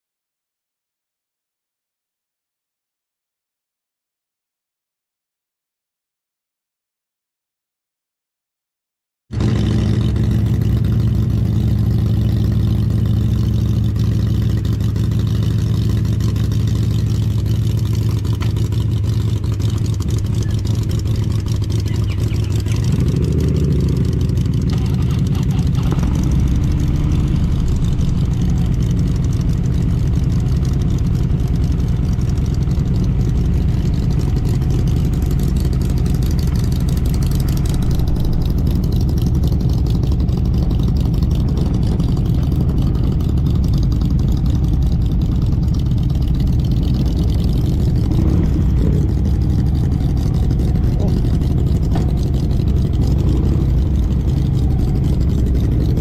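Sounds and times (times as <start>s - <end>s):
motorcycle engine running: 9.3s - 56.0s
road and wind noise: 9.4s - 56.0s.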